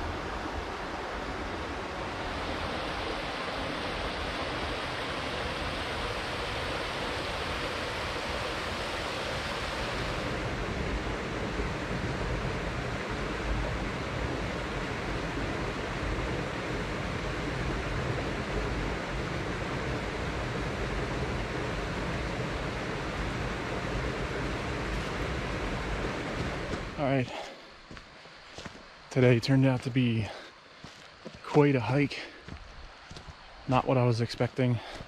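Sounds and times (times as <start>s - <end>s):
flowing stream water: 0.0s - 29.2s.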